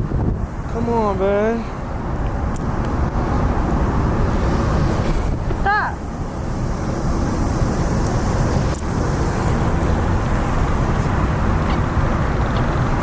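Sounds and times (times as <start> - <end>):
low rumble of car noise: 0.0 - 13.0.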